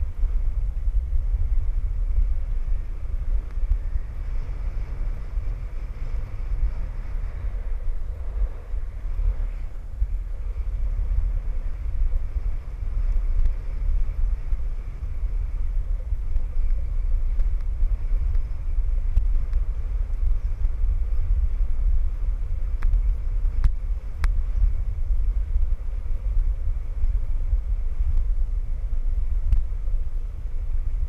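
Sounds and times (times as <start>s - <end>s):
sled runners rumbling on snow: 0.0s - 31.0s.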